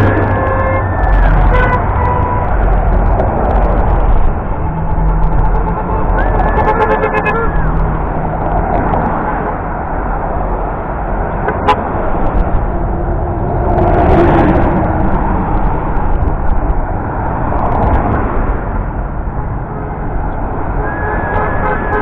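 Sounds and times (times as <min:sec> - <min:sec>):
highway traffic: 0:00.0 - 0:22.0.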